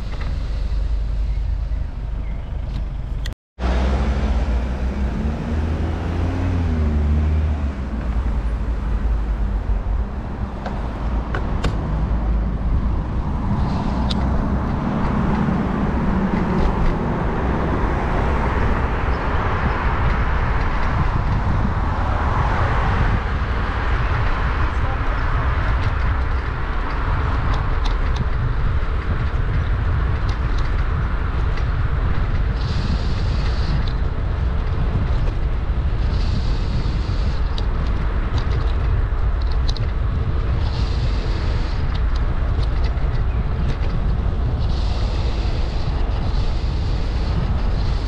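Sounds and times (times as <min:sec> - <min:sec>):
road hiss: 0:00.0 - 0:02.1, 0:03.6 - 0:27.4, 0:31.7 - 0:39.4, 0:40.0 - 0:48.0
car engine: 0:00.0 - 0:48.0
street traffic passing: 0:00.0 - 0:48.0
wind rumble on microphone: 0:00.0 - 0:48.0.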